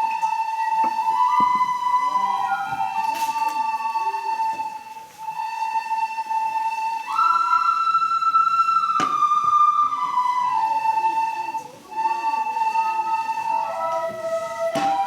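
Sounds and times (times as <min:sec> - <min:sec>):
recorders playing slow melody: 0:00.0 - 0:15.0.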